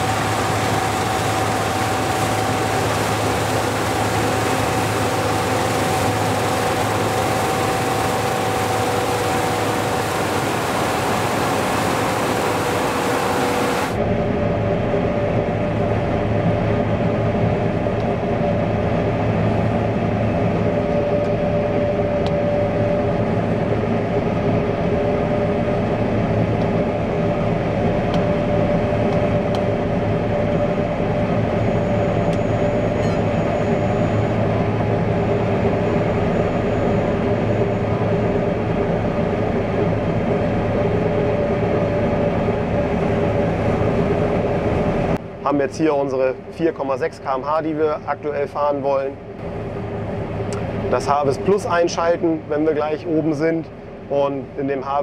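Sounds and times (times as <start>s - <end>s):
combine harvester mechanical drone: 0.0s - 55.0s.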